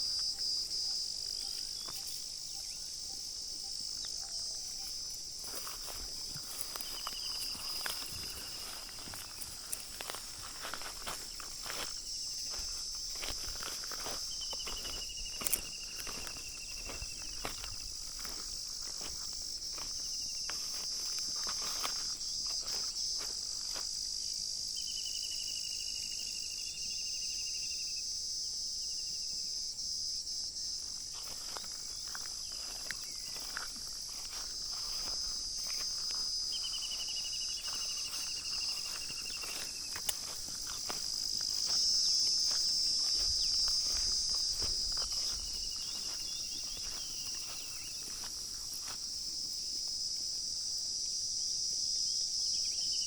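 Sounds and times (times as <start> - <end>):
falling insect trills: 0.0 - 50.3
high-pitched insect chorus: 0.0 - 53.0.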